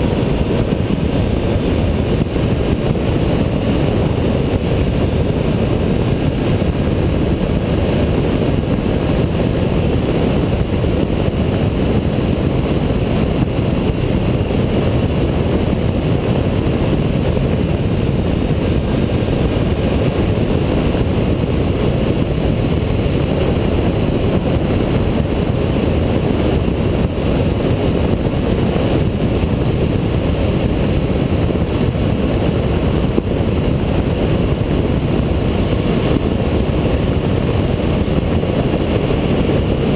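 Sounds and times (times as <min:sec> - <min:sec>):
wind and road noise: 0:00.0 - 0:39.9
wind buffeting microphone: 0:00.0 - 0:39.9.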